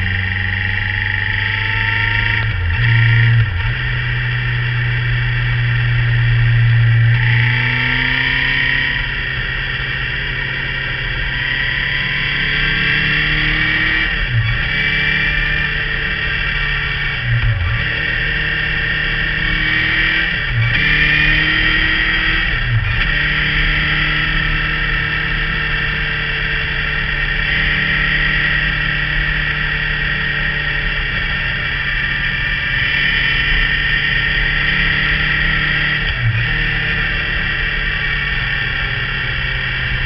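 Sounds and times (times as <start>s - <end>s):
motorcycle engine buzzing: 0.0s - 40.0s
wind and road noise: 0.0s - 40.0s.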